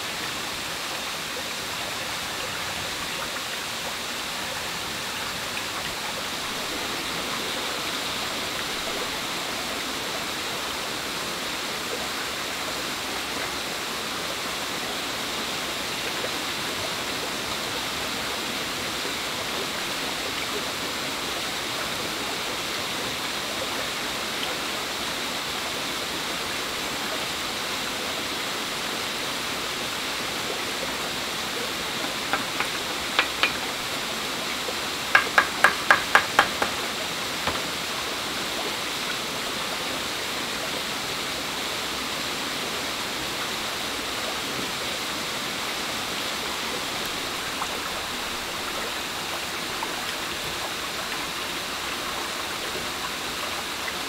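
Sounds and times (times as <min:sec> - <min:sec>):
shallow stream flowing: 0:00.0 - 0:54.0.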